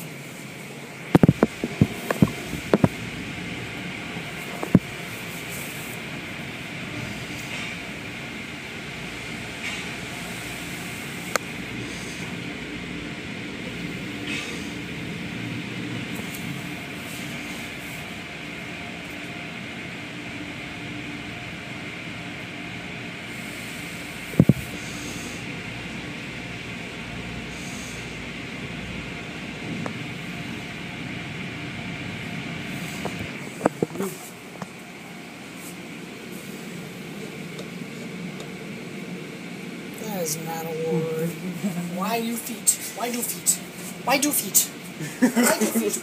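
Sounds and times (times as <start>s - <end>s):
car wash machinery rumble: 0.0s - 46.0s.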